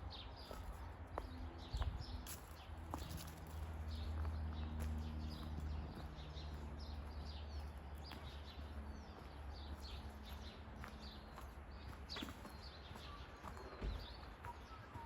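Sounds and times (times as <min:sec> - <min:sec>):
forest birds chirping: 0:00.0 - 0:15.0.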